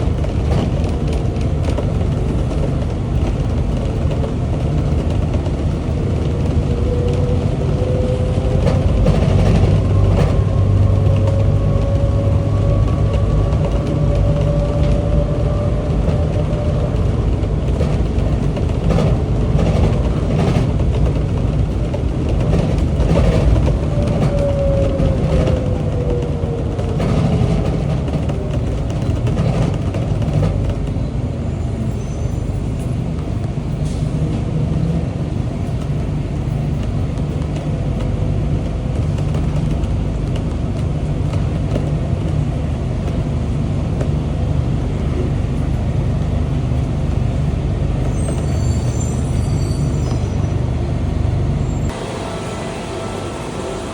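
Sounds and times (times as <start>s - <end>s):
train rumbling on guideway: 0.0s - 53.9s.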